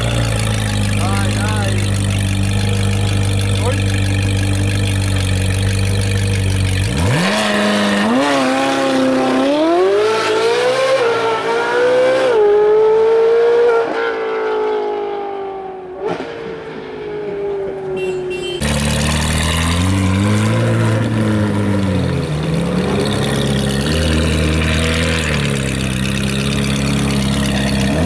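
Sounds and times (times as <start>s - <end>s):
car engine revving through gears: 0.0s - 15.0s, 18.6s - 28.0s.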